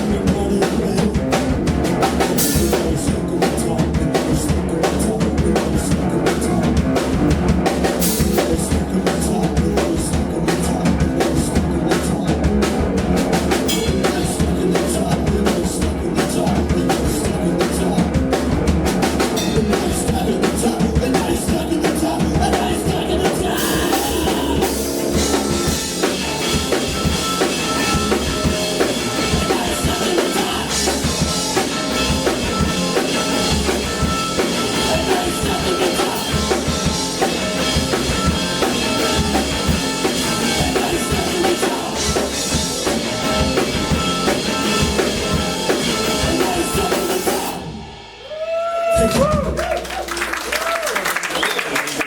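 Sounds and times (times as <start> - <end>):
live music with drum kit: 0.0 - 52.0.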